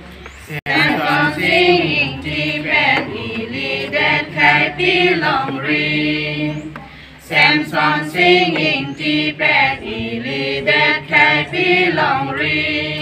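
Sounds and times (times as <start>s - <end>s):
group of people singing: 0.4s - 13.0s.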